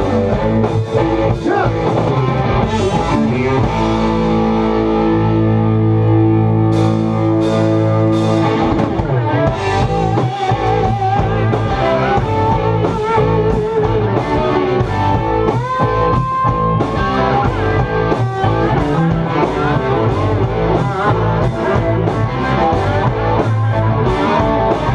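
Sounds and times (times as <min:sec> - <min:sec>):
drum kit: 0:00.0 - 0:24.9
electric bass: 0:00.0 - 0:24.9
electric guitar lead: 0:00.0 - 0:24.9.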